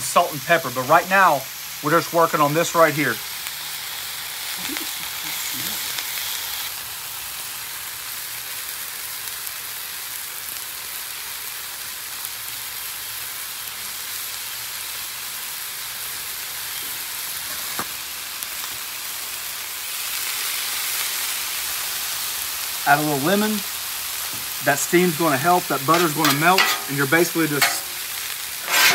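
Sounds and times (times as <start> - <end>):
food sizzling on a griddle: 0.0 - 28.9.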